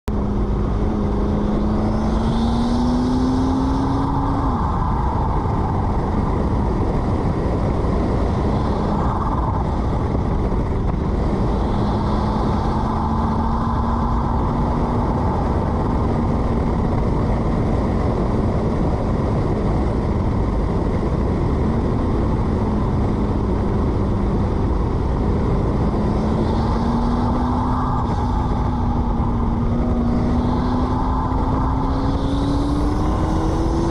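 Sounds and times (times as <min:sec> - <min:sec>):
road noise: 0:00.0 - 0:33.9
car engine running: 0:00.1 - 0:33.9.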